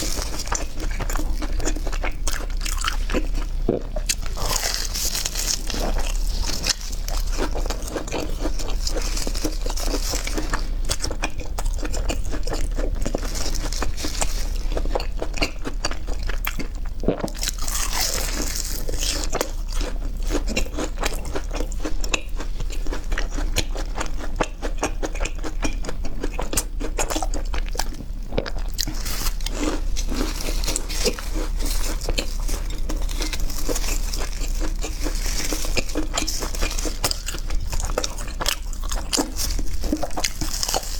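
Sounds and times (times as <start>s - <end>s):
chewing crunchy fried food: 0.0s - 40.9s.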